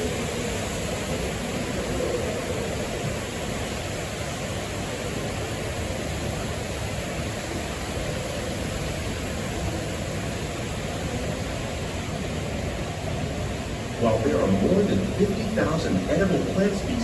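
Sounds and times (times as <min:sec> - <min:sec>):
ride boat rushing noise: 0:00.0 - 0:17.0.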